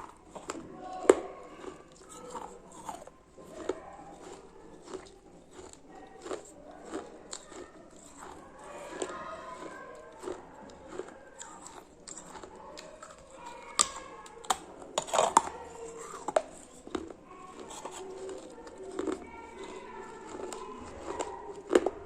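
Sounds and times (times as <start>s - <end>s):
chewing crunchy food: 0.0s - 22.0s.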